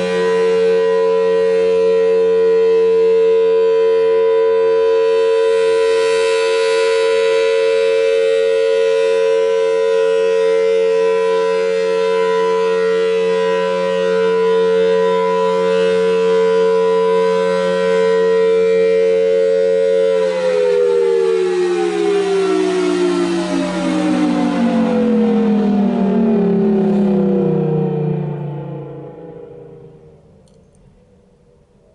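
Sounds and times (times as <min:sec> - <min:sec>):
warning siren wailing: 0:00.0 - 0:31.9.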